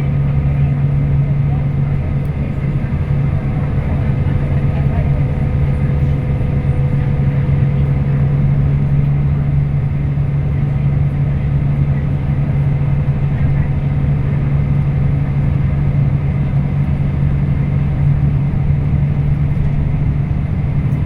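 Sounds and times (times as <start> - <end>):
road noise: 0.0 - 20.9
bus diesel engine drone: 0.0 - 21.0.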